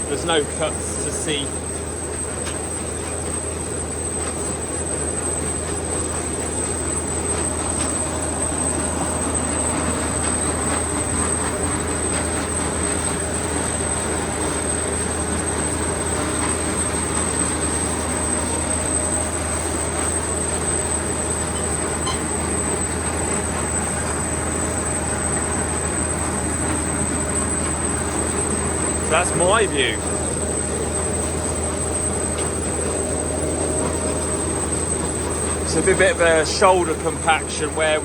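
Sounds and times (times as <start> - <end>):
high-pitched machine whine: 0.0 - 38.0.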